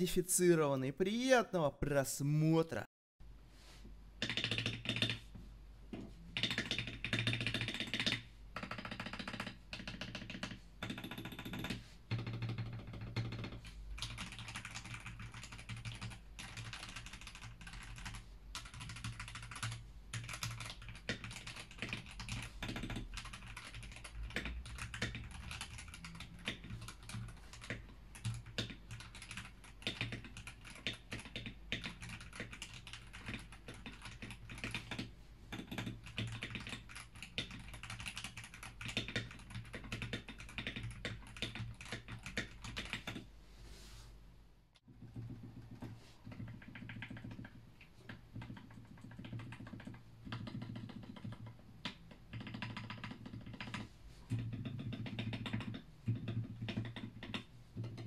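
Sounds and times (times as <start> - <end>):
fast mechanical keyboard typing: 4.2 - 5.2, 6.3 - 43.3, 44.9 - 58.0.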